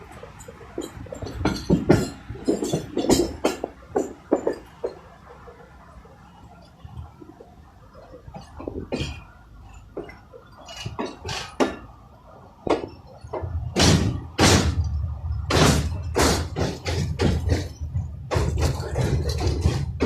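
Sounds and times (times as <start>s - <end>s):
low train rumble: 0.0s - 20.0s
train wheels clattering over rails: 0.0s - 20.0s
carriage clunks: 0.2s - 5.1s, 6.9s - 11.9s, 12.6s - 20.0s.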